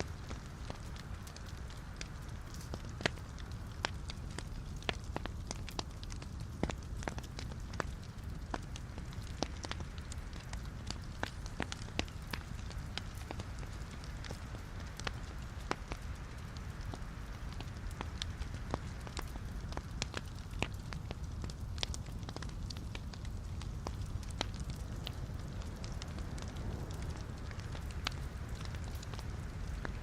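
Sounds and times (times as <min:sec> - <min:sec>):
burning logs crackling and popping: 0:00.0 - 0:30.0
fire rumbling in fireplace: 0:00.0 - 0:30.0.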